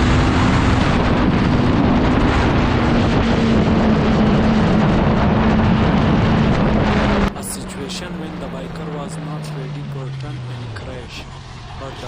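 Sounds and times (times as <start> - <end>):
motorcycle engine: 0.0 - 12.0
wind buffeting microphone: 0.0 - 12.0.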